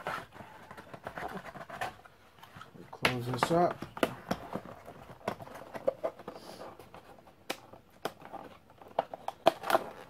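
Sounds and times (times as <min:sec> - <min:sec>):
cardboard flaps tapping and scraping: 0:00.0 - 0:10.0.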